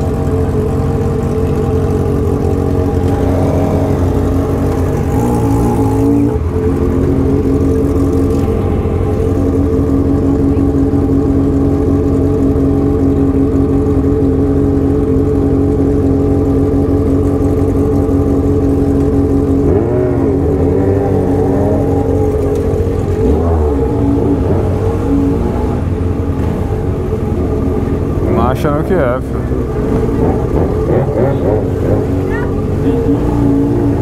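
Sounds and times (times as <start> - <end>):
motorcycle engine revving: 0.0 - 34.0
motorcycle engines idling: 0.0 - 34.0.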